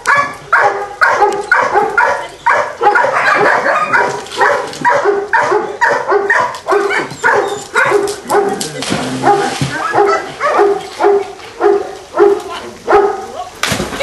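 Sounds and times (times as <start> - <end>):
dog barking: 0.0 - 8.6, 9.2 - 13.4.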